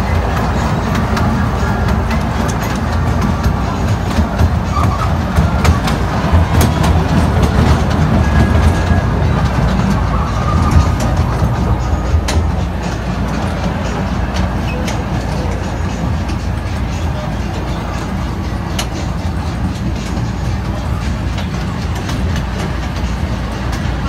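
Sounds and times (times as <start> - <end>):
wheels rumbling on track: 0.0 - 24.0.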